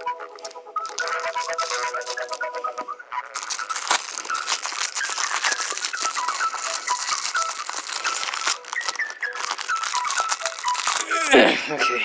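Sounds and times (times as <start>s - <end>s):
toy packaging crinkling: 0.0s - 11.4s
background music with high notes: 0.0s - 12.0s.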